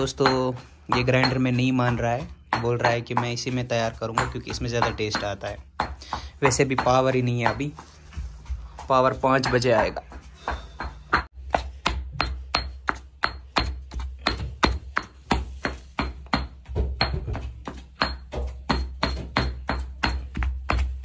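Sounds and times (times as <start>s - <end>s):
stone pestle pounding in mortar: 0.0s - 21.0s.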